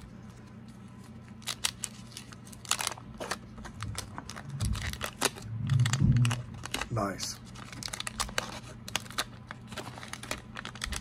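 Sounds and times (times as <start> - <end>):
faint low hum: 0.0 - 11.0
wax paper pack crinkling: 0.0 - 11.0.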